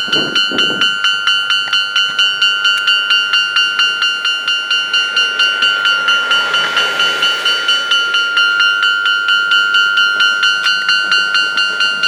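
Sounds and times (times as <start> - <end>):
level-crossing bell clanging: 0.0 - 12.0
passing train rushing: 0.0 - 12.0.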